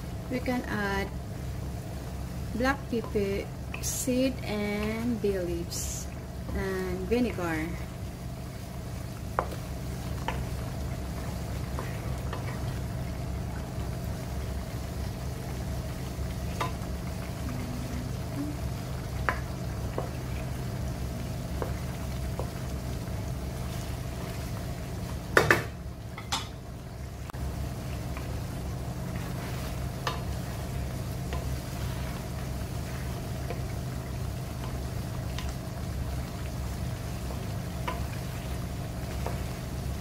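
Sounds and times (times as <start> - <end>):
sauce simmering: 0.0 - 40.0
steady low hum: 0.0 - 40.0.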